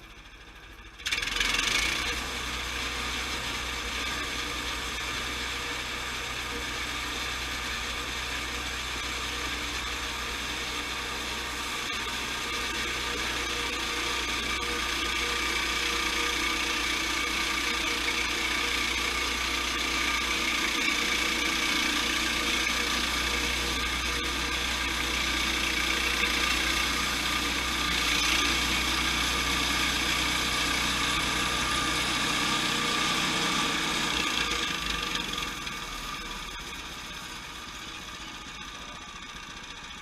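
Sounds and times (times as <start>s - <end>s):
sawmill engine running: 0.0s - 40.0s.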